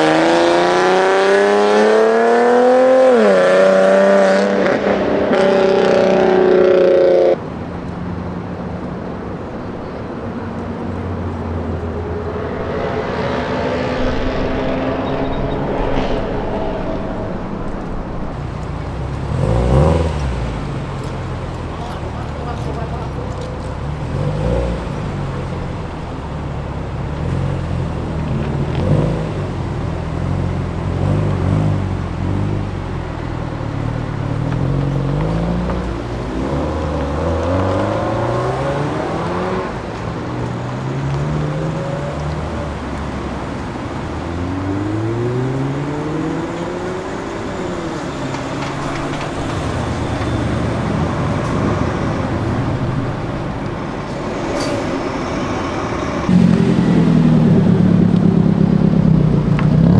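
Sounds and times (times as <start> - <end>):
car engines accelerating: 0.0 - 59.9.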